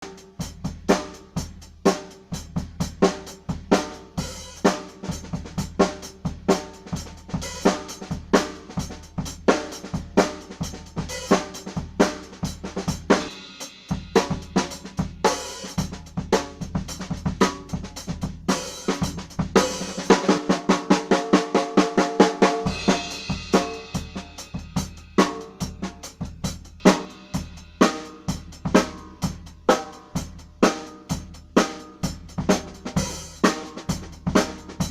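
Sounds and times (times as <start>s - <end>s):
drum kit groove: 0.0s - 34.9s.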